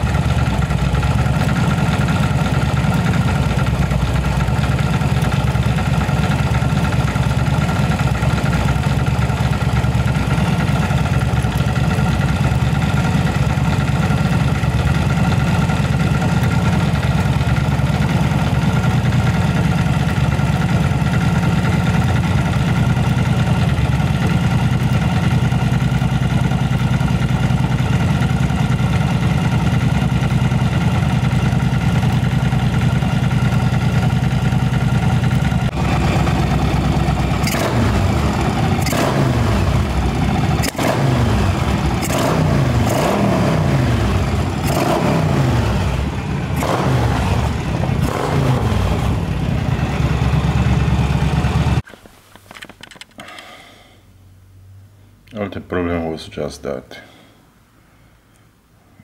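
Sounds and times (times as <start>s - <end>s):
motorcycle engine idling: 0.0s - 51.8s.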